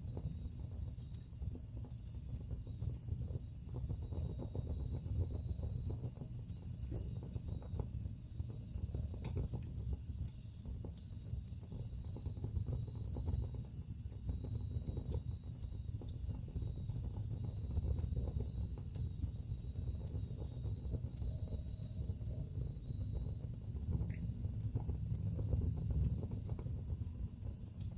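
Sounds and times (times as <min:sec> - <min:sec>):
fire flames rumbling: 0:00.0 - 0:27.9
logs crackling and popping: 0:00.1 - 0:27.9.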